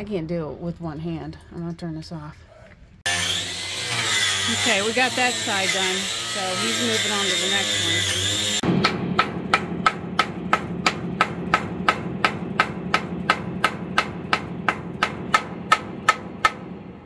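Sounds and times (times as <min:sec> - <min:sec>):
metal-on-metal hammering: 0:03.1 - 0:17.0.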